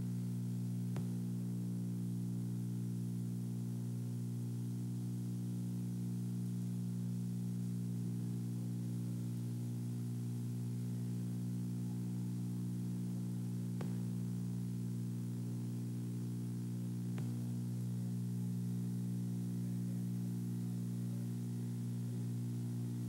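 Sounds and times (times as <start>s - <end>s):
low buzzing hum: 0.0s - 23.0s.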